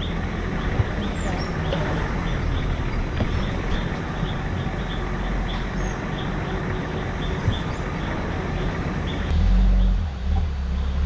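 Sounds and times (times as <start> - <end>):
off-road vehicle engine rumbling: 0.0 - 11.0.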